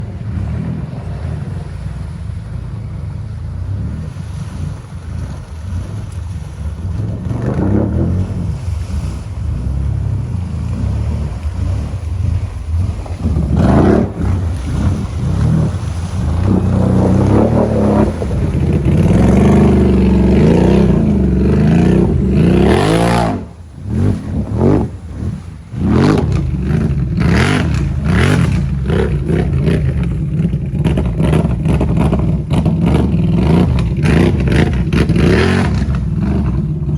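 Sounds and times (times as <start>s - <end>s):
atv engine revving: 0.0s - 36.9s.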